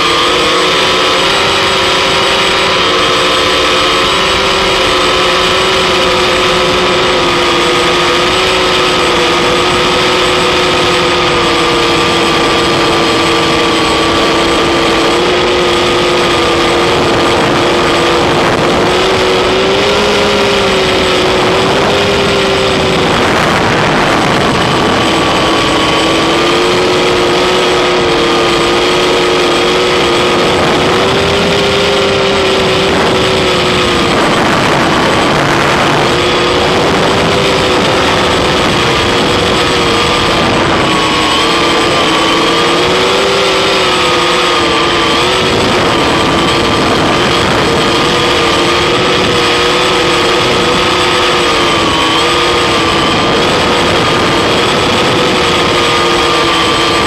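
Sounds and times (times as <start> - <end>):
drone motors whining: 0.0 - 57.0
wind noise rush: 0.0 - 57.0.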